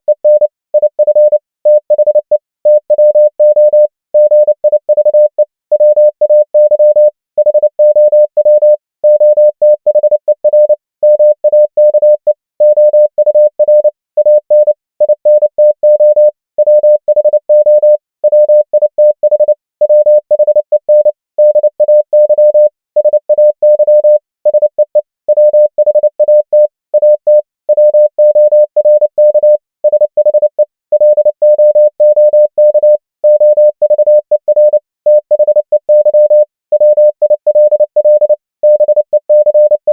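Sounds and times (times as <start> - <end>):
morse code electronic tone: 0.0 - 39.9.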